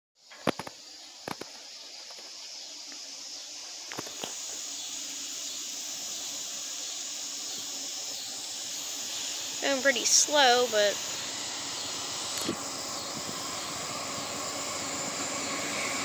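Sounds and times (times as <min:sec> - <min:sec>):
steady hiss: 0:00.2 - 0:16.0.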